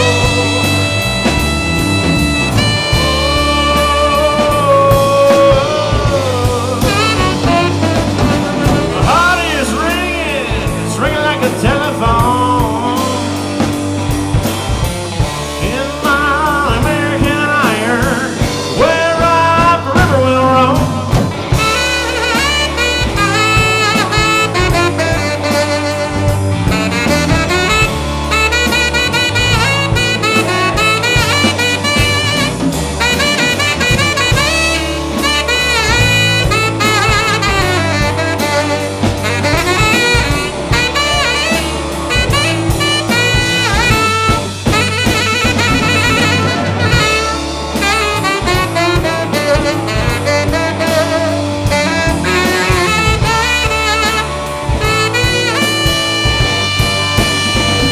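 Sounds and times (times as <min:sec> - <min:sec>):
rock band playing: 0:00.0 - 0:57.9
saxophone solo: 0:00.0 - 0:57.9.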